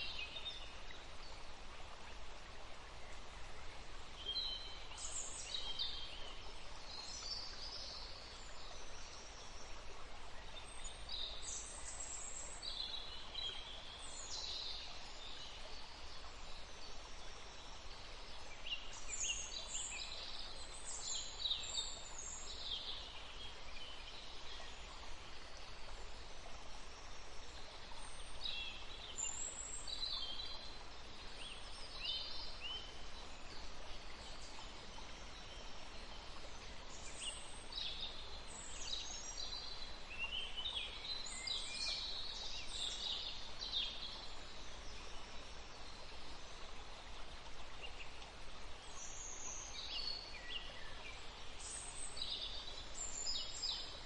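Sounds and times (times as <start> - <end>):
forest ambience hiss: 0.0 - 54.0
songbirds chirping: 0.0 - 54.0.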